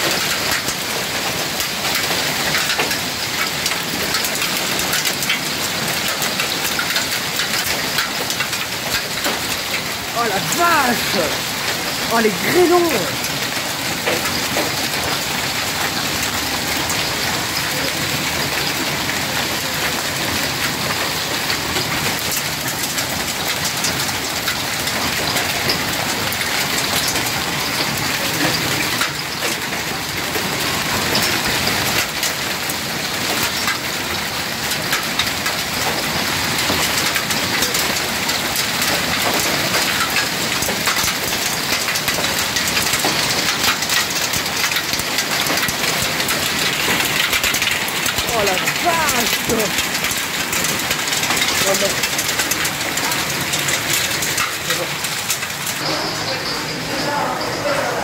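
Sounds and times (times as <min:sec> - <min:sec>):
hail hitting pavement: 0:00.0 - 0:58.0
downpour hiss: 0:09.2 - 0:58.0.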